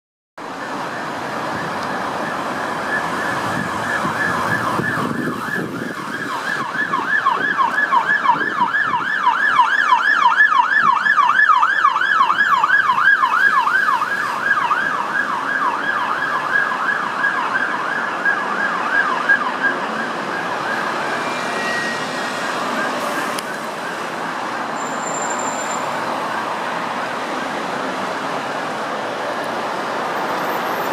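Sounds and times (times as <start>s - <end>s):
ambulance siren yelping: 0.4s - 29.4s
road traffic noise: 0.4s - 30.9s.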